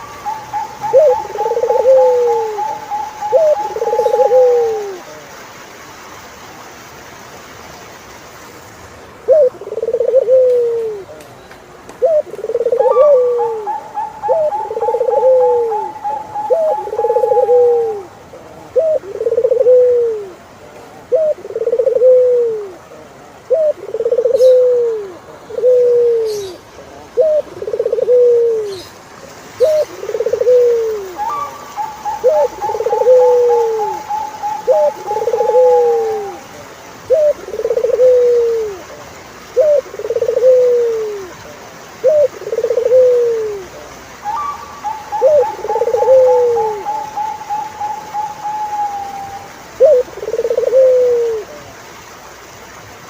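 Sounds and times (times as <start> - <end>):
dove cooing: 0.0 - 5.2, 9.2 - 11.2, 12.0 - 28.9, 29.6 - 51.7.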